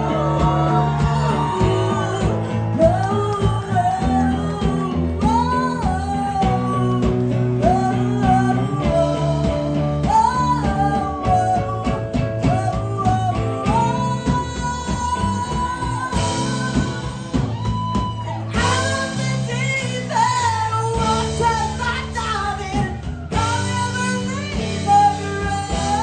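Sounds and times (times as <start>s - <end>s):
backing band: 0.0s - 26.0s
woman singing: 0.0s - 26.0s.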